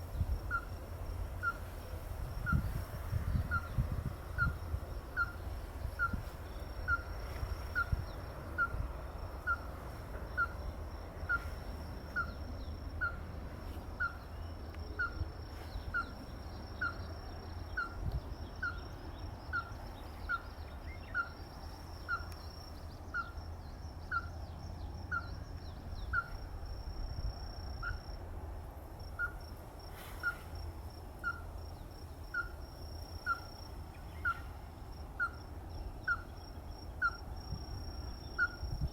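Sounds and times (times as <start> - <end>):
high insect trill: 0.0 - 38.9.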